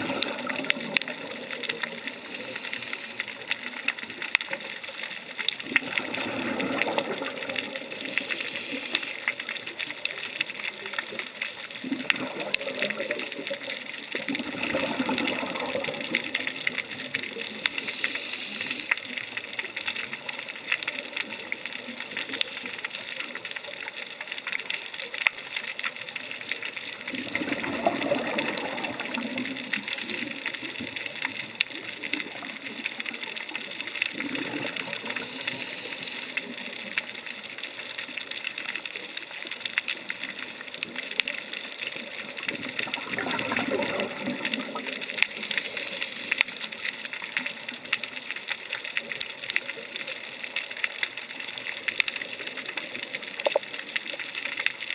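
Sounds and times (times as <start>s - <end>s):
exhaled bubbles underwater: 0.0s - 54.9s
steady crackle: 0.0s - 54.9s.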